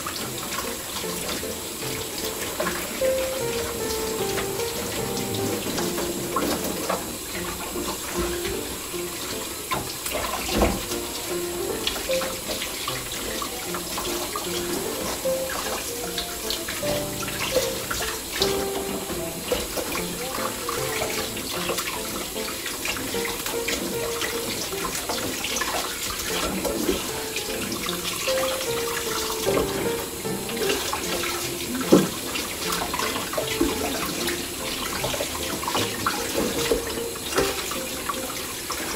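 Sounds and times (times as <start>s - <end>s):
soft background music: 0.0s - 38.9s
tap running into sink: 0.0s - 38.9s.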